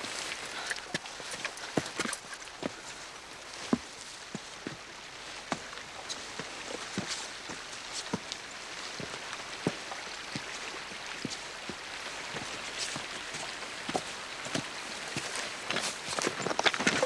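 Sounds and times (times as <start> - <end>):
footsteps on gravel and stone: 0.0 - 8.3, 11.2 - 17.0.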